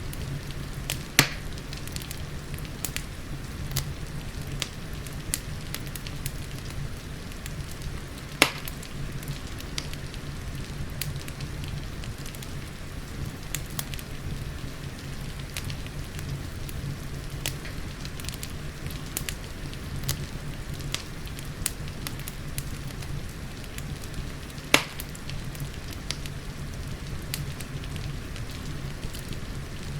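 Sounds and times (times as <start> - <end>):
rain hissing: 0.0 - 29.9
wood fire crackling: 0.0 - 29.9.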